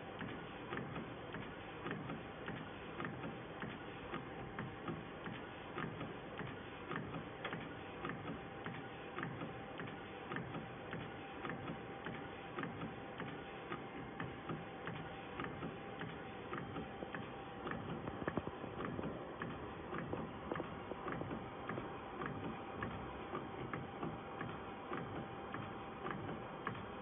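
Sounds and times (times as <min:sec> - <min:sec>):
printer carriage whine: 0:00.0 - 0:27.0.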